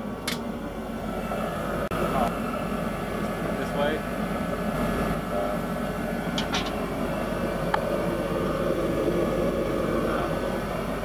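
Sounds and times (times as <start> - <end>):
space heater rushing: 0.0 - 11.0.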